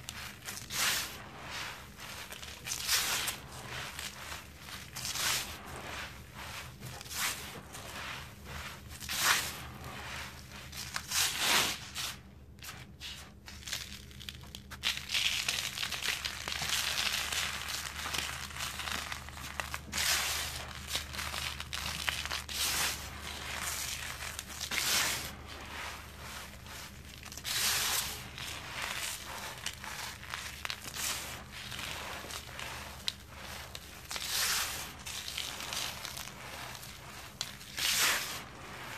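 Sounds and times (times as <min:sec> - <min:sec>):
powder rustling and scraping: 0:00.0 - 0:38.9.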